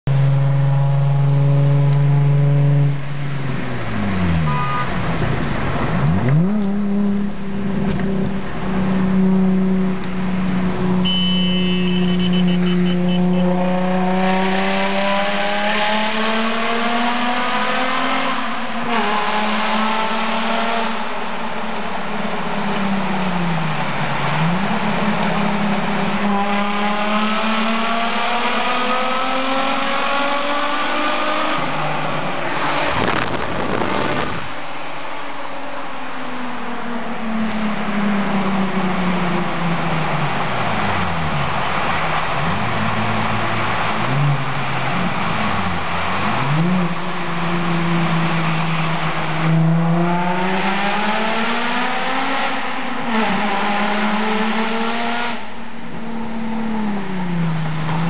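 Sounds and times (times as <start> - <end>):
car engine accelerating through gears: 0.1 - 35.4, 36.1 - 58.0.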